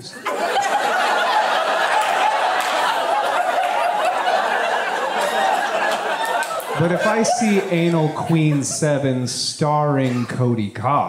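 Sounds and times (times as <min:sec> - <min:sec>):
audience laughing: 0:00.0 - 0:09.3.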